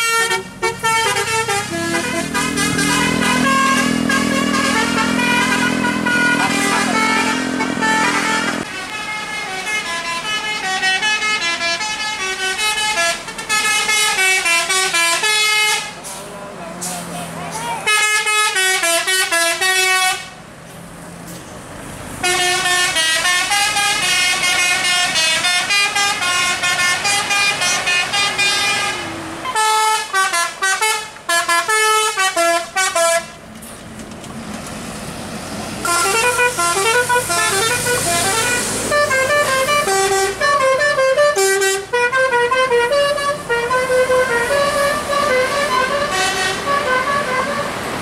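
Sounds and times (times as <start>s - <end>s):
musical bus horns playing: 0.0s - 16.2s, 17.7s - 20.4s, 22.2s - 33.4s, 35.8s - 48.0s
bus engine: 0.0s - 48.0s
road noise: 0.0s - 48.0s.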